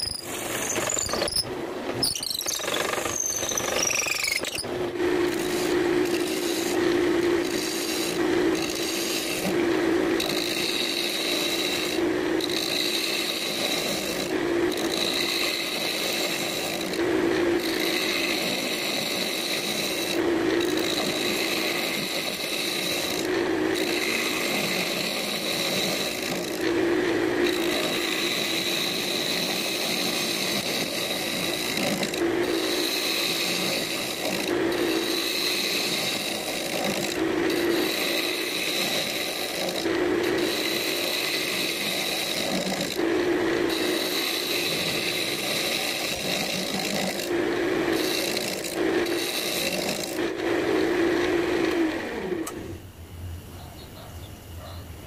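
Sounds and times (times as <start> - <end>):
gouge scraping wood: 2.0 - 9.6, 10.2 - 43.1, 43.7 - 50.3
wood lathe running: 2.4 - 52.8.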